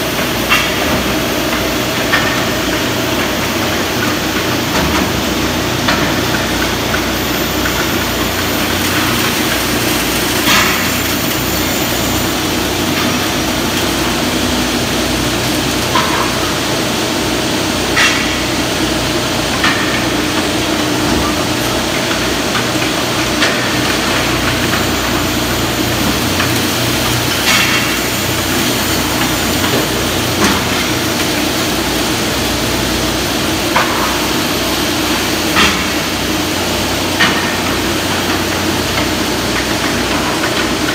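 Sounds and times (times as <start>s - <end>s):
steady machine noise: 0.0s - 40.9s.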